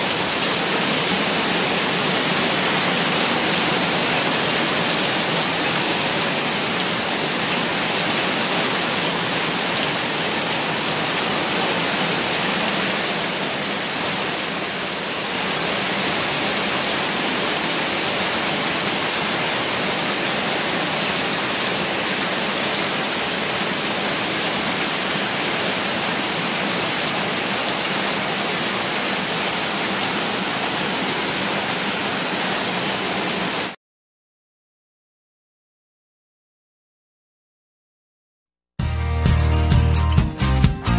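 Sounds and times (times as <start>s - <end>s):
heavy rain: 0.0s - 33.8s
water rushing over concrete: 0.0s - 33.8s.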